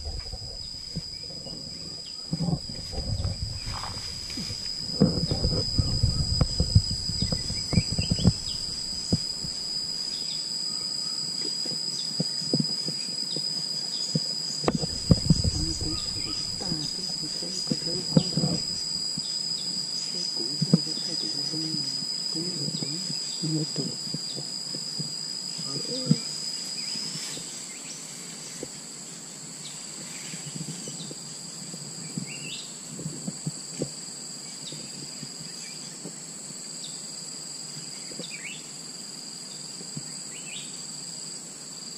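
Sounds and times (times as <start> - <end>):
insects buzzing: 0.0 - 41.9.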